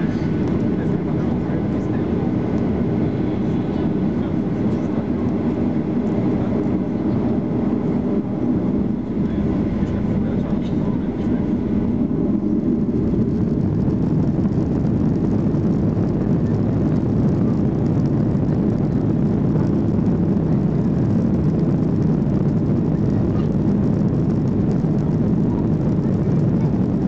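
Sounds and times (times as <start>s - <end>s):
jet engines roaring in cabin: 0.0s - 27.0s.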